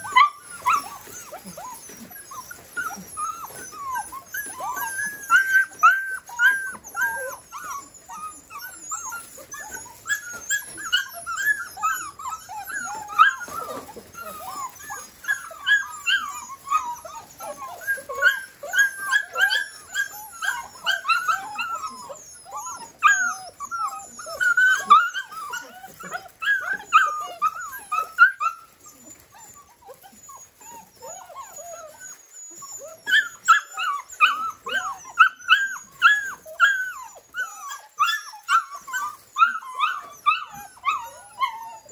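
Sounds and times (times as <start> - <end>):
puppies whining and yipping: 0.0 - 41.9.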